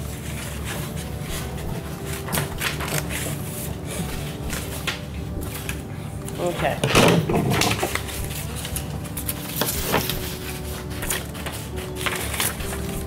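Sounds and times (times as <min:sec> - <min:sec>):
paper rustling: 0:00.0 - 0:13.0
scissors snipping paper: 0:00.0 - 0:13.0.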